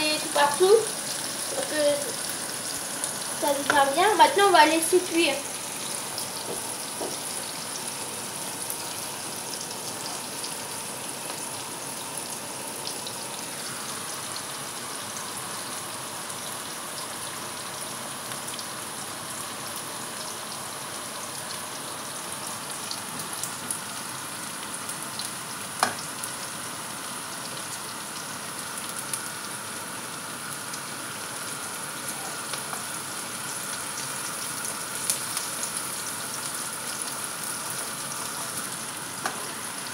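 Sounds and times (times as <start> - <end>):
onions sizzling in oil: 0.0 - 39.9.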